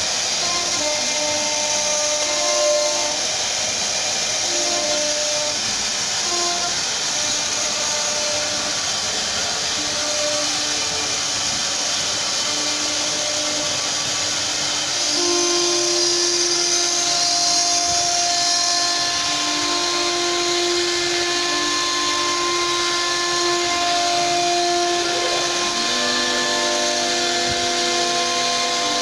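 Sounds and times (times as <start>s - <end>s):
router spindle whine and hiss: 0.0s - 29.0s
stepping motor tones: 0.0s - 29.0s.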